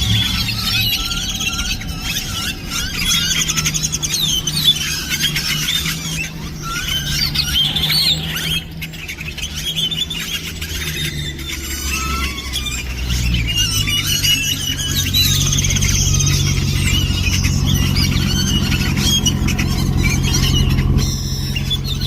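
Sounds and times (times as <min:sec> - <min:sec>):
flock of birds calling: 0:00.0 - 0:22.0.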